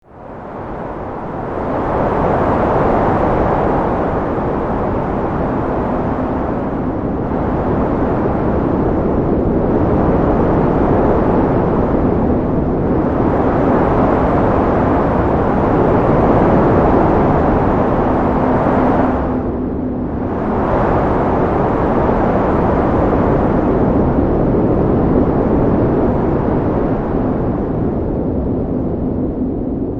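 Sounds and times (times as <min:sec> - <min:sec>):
wind blowing hard: 0:00.0 - 0:29.9.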